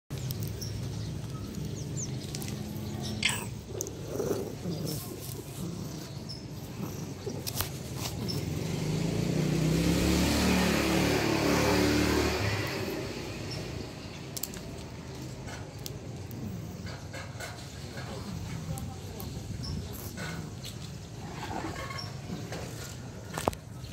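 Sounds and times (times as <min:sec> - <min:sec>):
street noise: 0:00.1 - 0:23.9
vehicle engine passing by: 0:00.2 - 0:23.9.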